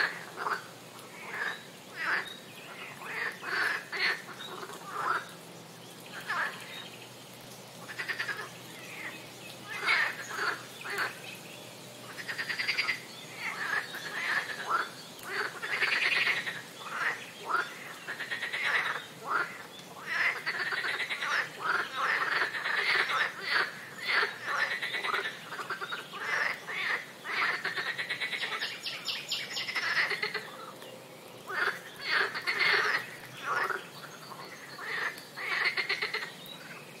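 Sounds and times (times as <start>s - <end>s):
frogs calling in chorus: 0.0s - 6.9s, 7.8s - 11.4s, 12.1s - 30.8s, 31.4s - 36.8s.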